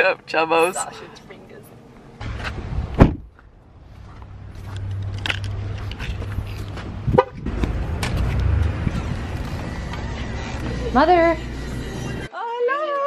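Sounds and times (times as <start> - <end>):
car engine rumble: 0.8 - 12.3.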